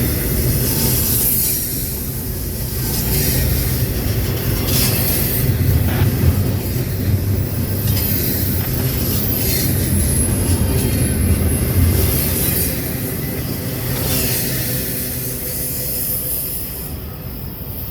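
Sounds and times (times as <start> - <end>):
train cars rumbling: 0.0 - 17.9.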